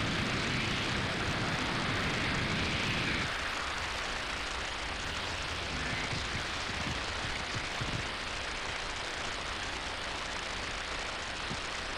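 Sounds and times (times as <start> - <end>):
steady hissing noise: 0.0 - 11.9.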